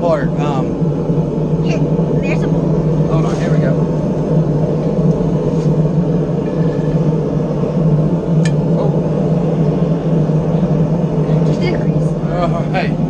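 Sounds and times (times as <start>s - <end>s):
forge low rumble: 0.0s - 13.0s.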